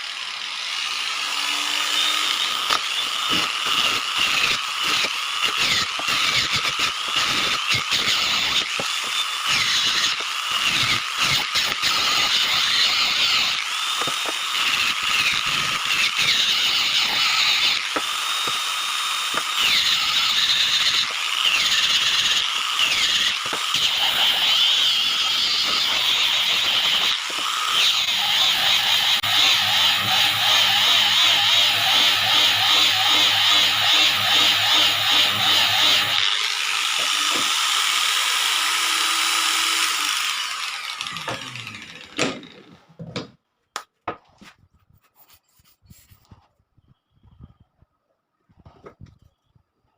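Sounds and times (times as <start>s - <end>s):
power tool whining into wood: 0.0s - 43.3s.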